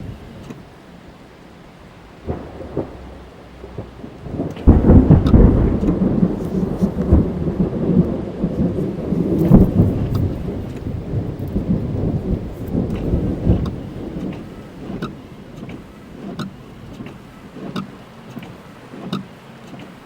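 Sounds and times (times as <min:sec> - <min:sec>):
thunder rumbling: 0:00.0 - 0:18.3
rain heard inside car: 0:00.0 - 0:20.0.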